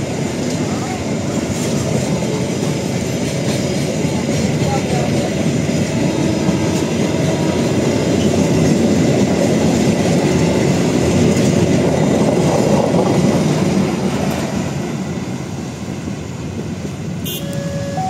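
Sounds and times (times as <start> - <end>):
train wheels clattering on rails: 0.0 - 17.2.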